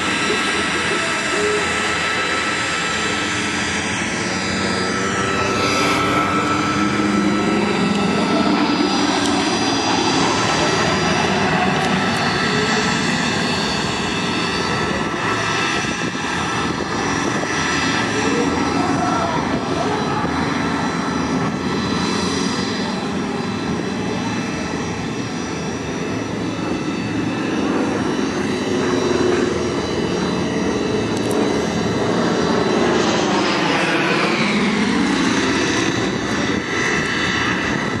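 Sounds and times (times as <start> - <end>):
small plane engines droning: 0.0 - 38.0.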